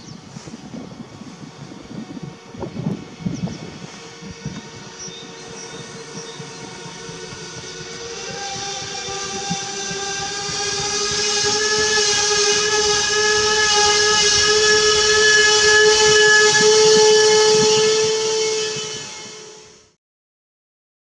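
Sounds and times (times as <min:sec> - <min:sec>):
railcar brakes whining: 0:00.0 - 0:20.0.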